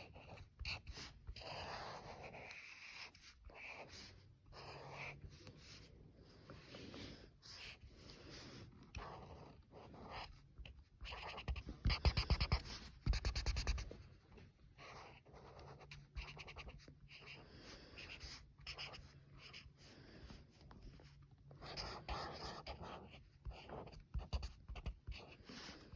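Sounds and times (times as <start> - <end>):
colouring tool scratching on paper: 0.0 - 14.0, 14.8 - 19.8, 21.6 - 25.9.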